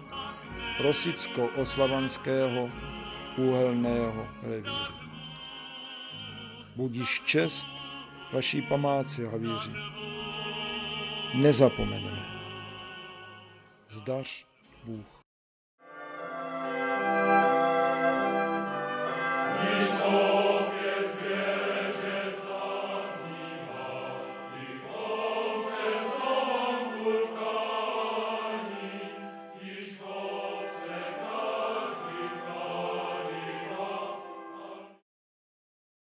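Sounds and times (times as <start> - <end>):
choral singing: 0.0 - 14.2, 16.2 - 35.0.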